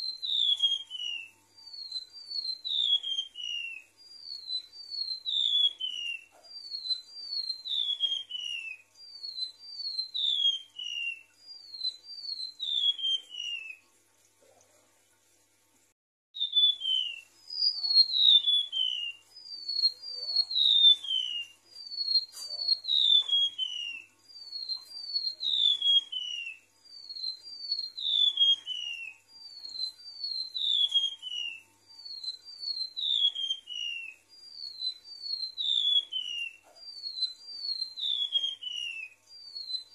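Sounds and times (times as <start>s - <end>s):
bird singing high whistles: 0.0s - 13.8s, 16.4s - 39.9s.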